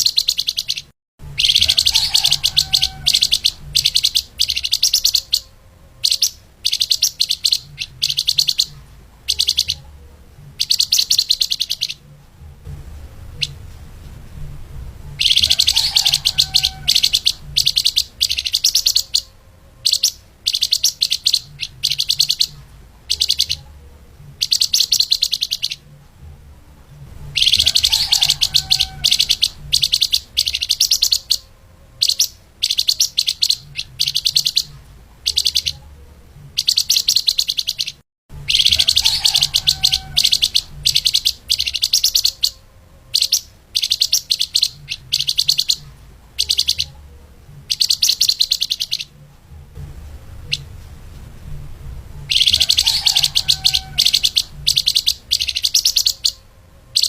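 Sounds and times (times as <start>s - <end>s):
songbird fast chirping song: 0.0s - 57.0s
low steady hum: 1.2s - 32.8s, 33.6s - 36.7s, 38.3s - 57.0s.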